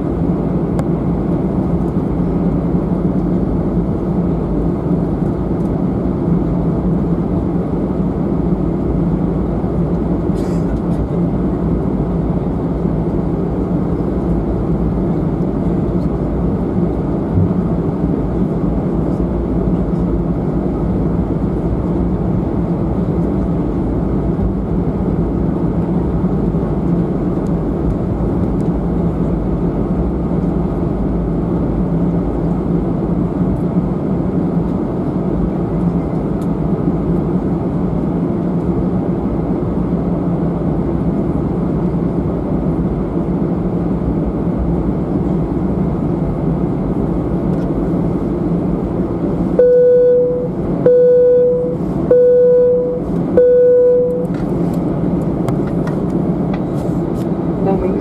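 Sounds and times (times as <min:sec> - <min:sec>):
jet engines humming in cabin: 0:00.0 - 0:58.0.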